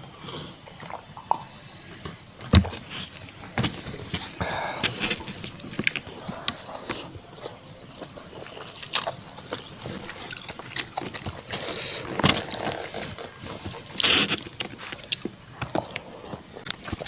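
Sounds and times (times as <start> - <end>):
breathy hiss: 0.0 - 17.0
person chewing food: 2.7 - 17.0.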